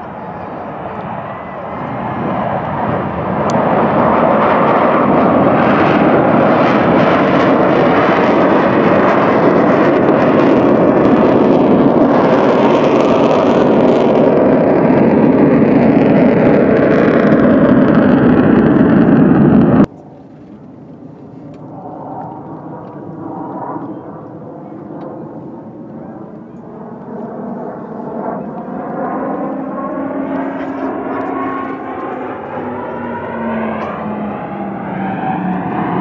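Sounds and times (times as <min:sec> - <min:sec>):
low-flying aircraft engine: 0:00.0 - 0:36.0.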